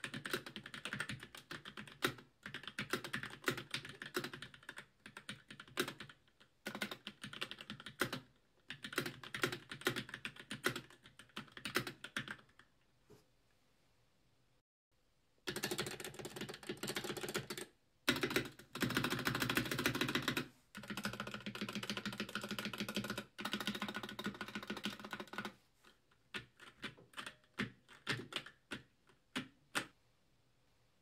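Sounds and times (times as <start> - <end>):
mechanical keyboard clacking: 0.0 - 12.6, 15.5 - 25.5, 26.3 - 29.9.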